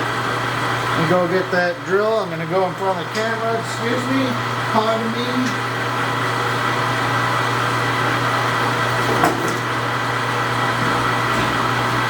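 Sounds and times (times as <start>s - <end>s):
shop machinery humming: 0.0s - 12.0s.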